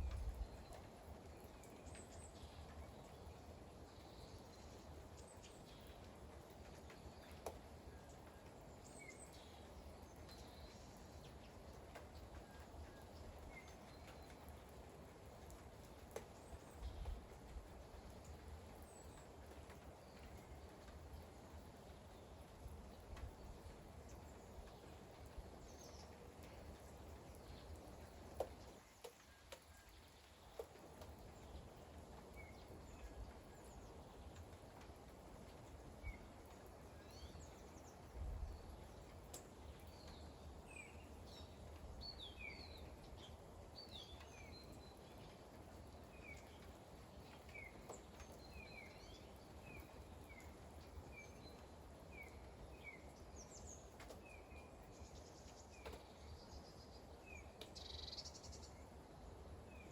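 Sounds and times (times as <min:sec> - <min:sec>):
faint steady rain: 0:00.0 - 0:59.9
sharp water drips: 0:00.0 - 0:59.9.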